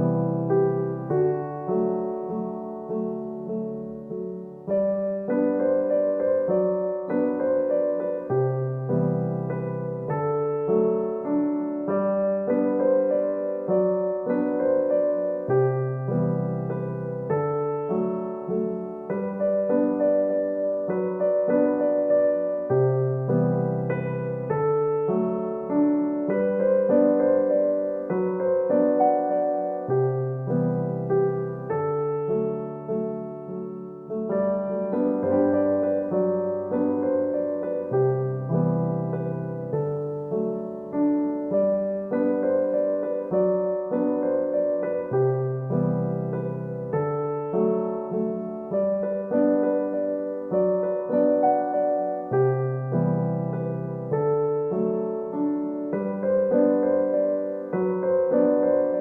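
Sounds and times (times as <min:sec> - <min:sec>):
electric piano chords: 0:00.0 - 0:59.0.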